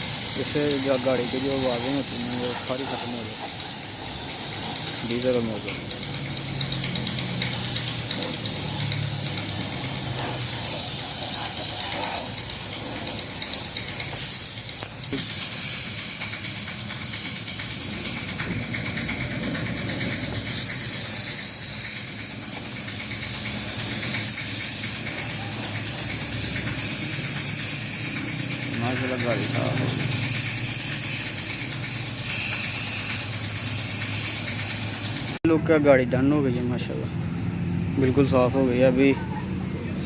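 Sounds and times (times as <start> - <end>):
spray gun hissing: 0.0 - 35.4.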